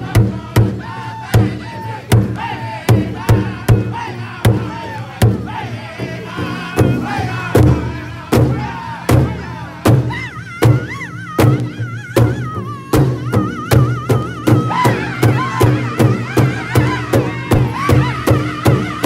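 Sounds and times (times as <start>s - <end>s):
large hide drum beat: 0.0s - 19.0s
men singing together: 0.0s - 19.0s.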